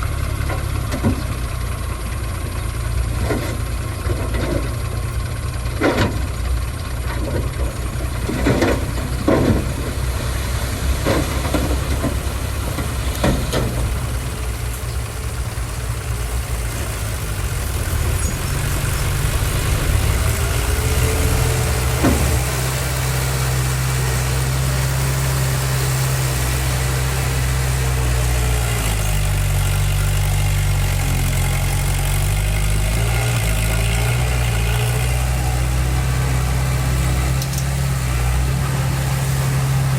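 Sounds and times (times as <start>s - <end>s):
diesel engine low drone: 0.0s - 39.9s.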